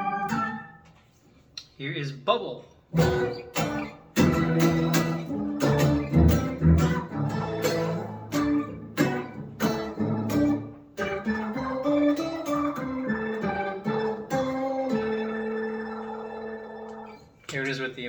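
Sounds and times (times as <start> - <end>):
synth guitar picked notes: 0.0 - 0.9, 3.0 - 17.3.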